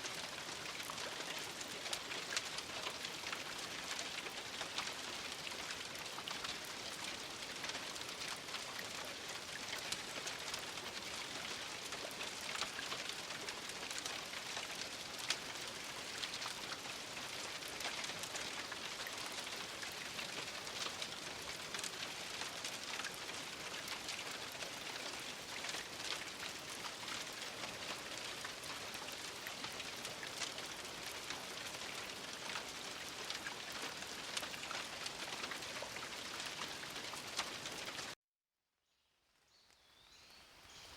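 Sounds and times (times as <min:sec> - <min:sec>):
raindrops ticking on a surface: 0:00.0 - 0:38.2
steady rain falling: 0:00.0 - 0:38.2.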